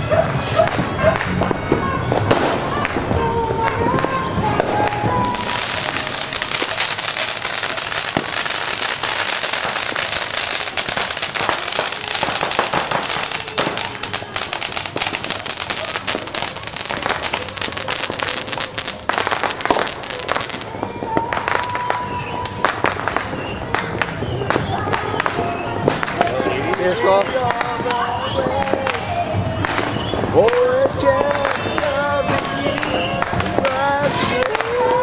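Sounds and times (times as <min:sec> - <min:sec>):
firecrackers crackling bangs: 0:00.0 - 0:35.0
fountain fireworks hissing: 0:00.0 - 0:35.0.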